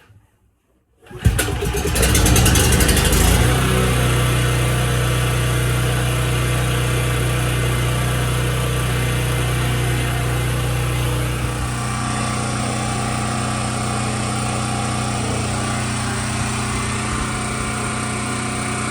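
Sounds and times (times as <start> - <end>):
generator engine running: 1.1 - 18.9.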